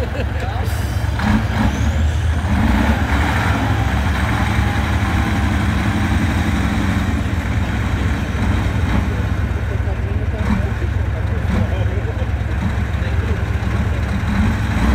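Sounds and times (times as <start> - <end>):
vehicle engine droning: 0.0 - 14.9.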